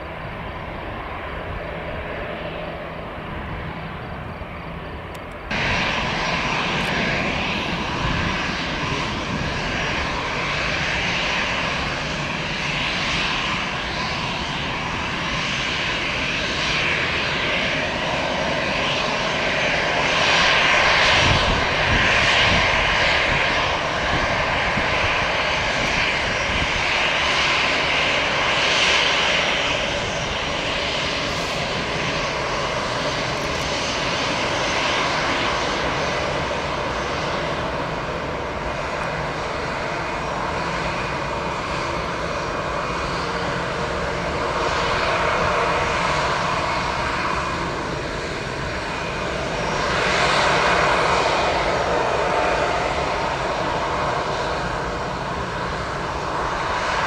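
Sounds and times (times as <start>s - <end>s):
jet engines rushing and whining: 0.0s - 57.0s.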